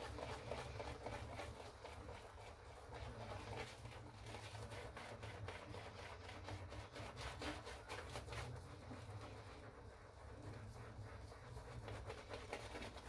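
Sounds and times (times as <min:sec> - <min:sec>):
shaving brush swishing through lather: 0:00.0 - 0:13.0.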